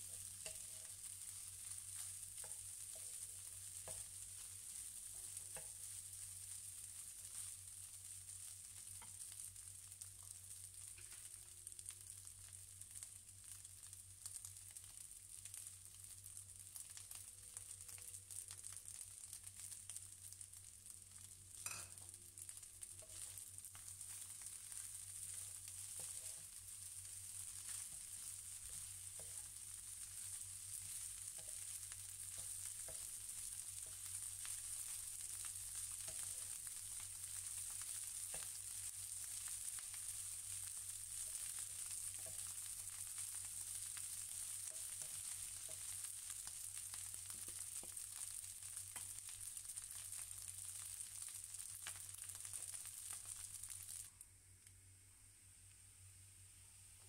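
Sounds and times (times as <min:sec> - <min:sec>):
rice sizzling in frying pan: 0:00.0 - 0:57.0.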